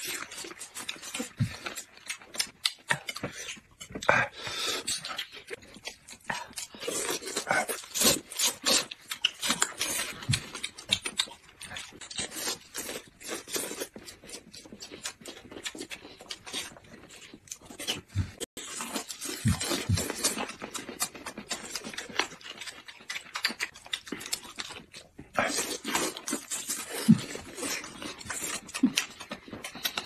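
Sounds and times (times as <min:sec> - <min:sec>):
food being chewed: 0:00.0 - 0:30.0.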